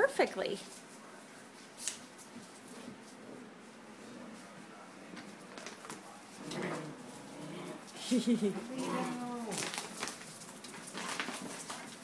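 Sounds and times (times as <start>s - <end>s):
puppies scuffling and rustling: 0.5s - 12.0s.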